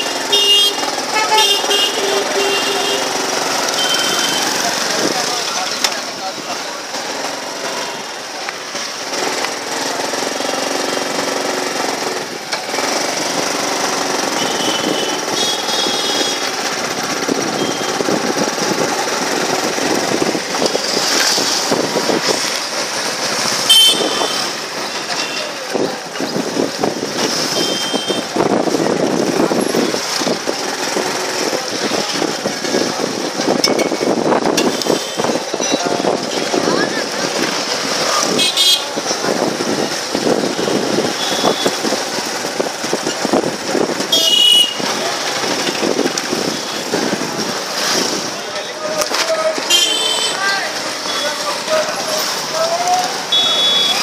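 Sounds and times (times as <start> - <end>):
rattling vehicle engine: 0.0 - 54.0
street traffic: 0.0 - 54.0.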